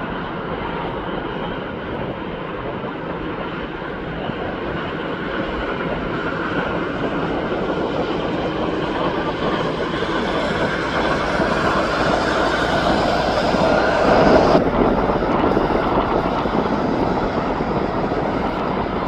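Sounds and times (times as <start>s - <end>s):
jet airliner engine rushing: 0.0s - 19.0s.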